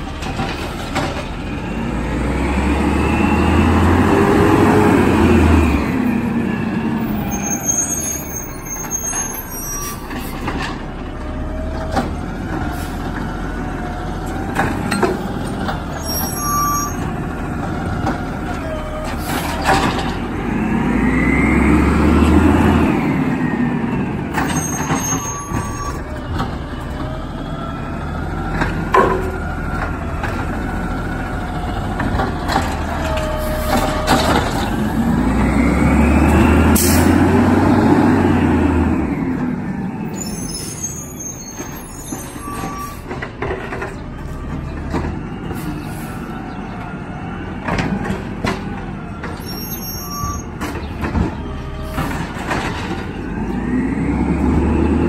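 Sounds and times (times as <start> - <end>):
garbage truck engine passing: 0.0 - 55.0.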